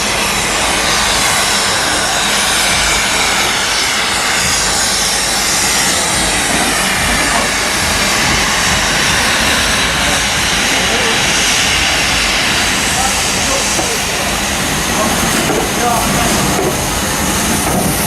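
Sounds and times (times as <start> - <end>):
steam hissing: 0.0 - 18.0.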